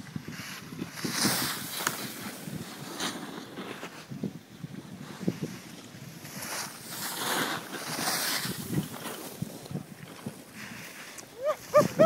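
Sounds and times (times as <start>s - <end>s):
skis scraping on snow: 0.0s - 12.0s
wind on microphone: 0.0s - 12.0s.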